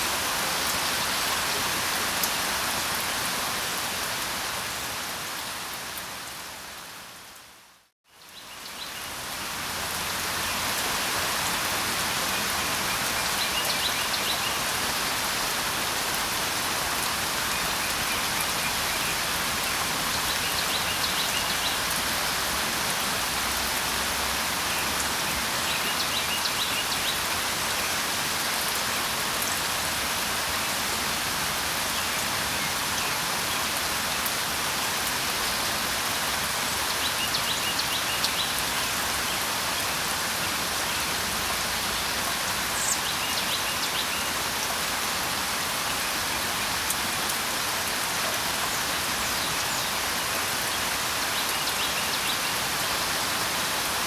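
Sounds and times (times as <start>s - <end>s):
rainfall: 0.0s - 54.0s.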